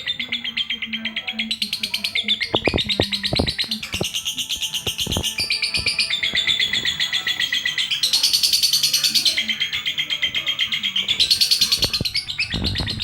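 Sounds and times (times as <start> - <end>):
lovebird chattering: 0.0 - 13.0.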